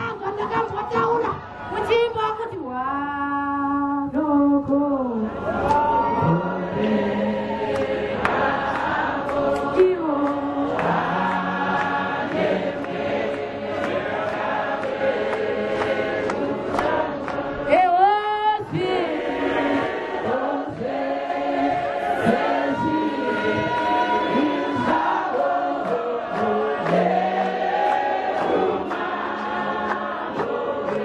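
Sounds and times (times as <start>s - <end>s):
choir singing a hymn: 5.1s - 31.0s.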